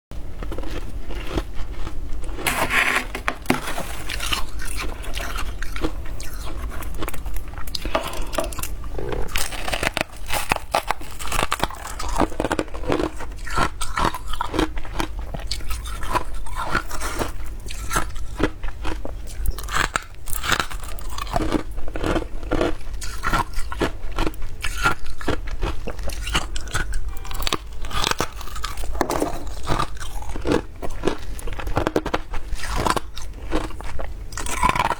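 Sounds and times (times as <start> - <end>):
chewing crunchy frost: 0.2 - 34.9.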